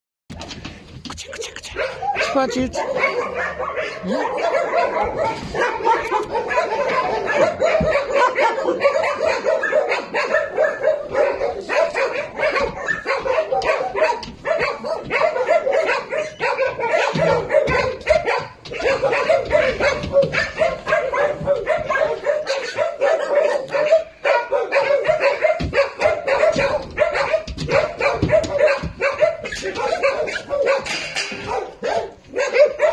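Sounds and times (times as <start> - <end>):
dogs barking and yipping: 0.3 - 32.9.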